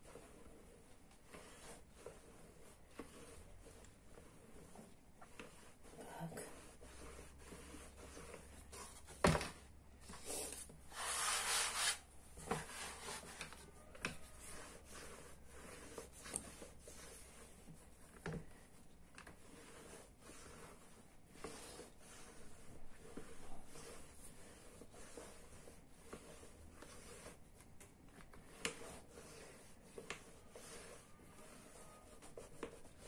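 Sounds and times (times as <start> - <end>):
rolling pin rubbing on pastry: 0.0 - 33.0.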